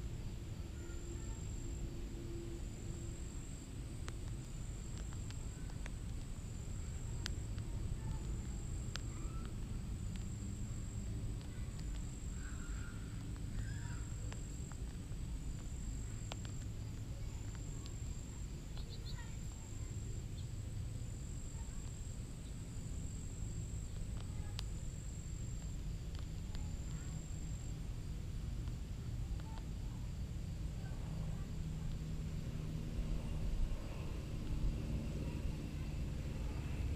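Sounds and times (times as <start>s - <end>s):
faint chirps: 0.0s - 36.9s.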